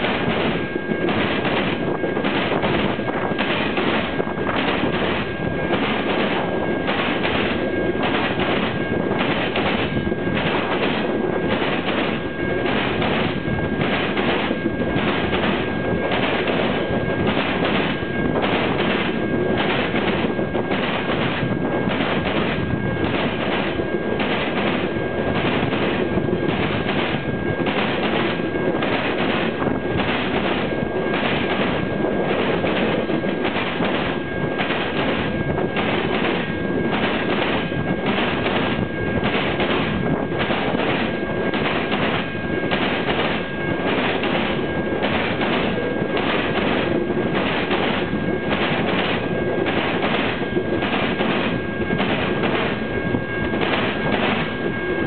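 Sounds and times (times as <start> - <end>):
train wheels clacking: 0.0 - 52.8, 53.6 - 54.7
train rumbling: 0.0 - 55.0.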